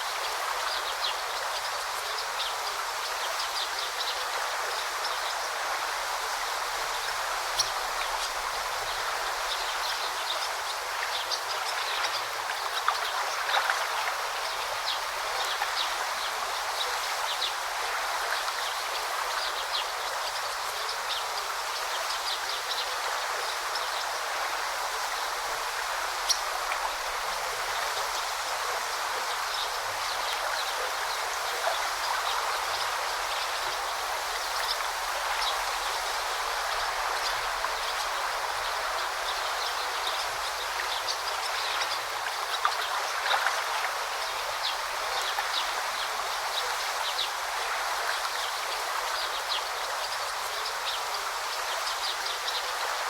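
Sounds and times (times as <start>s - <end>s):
river flowing: 0.0s - 53.0s.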